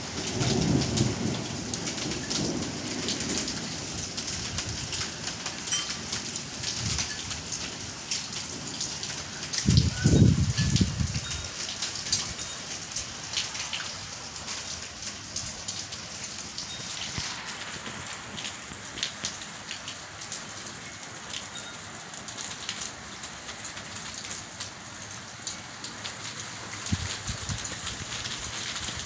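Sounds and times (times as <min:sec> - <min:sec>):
hail and rain falling: 0:00.0 - 0:29.0.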